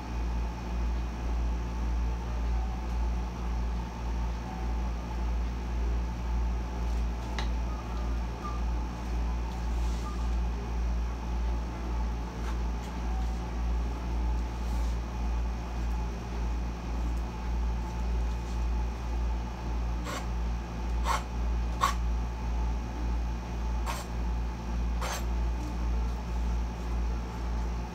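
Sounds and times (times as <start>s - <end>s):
air conditioner humming: 0.0s - 27.9s.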